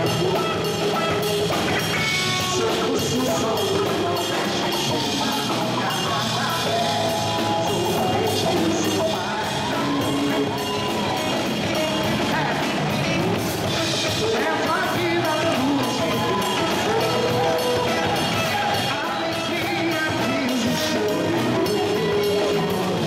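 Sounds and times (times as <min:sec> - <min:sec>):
congas: 0:00.0 - 0:23.0
drum kit: 0:00.0 - 0:23.0
electric guitar: 0:00.0 - 0:23.0
man singing: 0:00.0 - 0:23.0.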